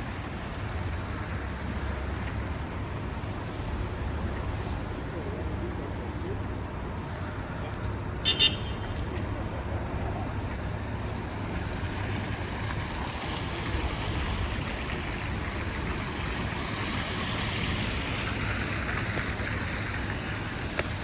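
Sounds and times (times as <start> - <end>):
tyres hissing on slushy road: 0.0 - 8.7, 9.3 - 21.0
traffic rumble: 0.0 - 21.0.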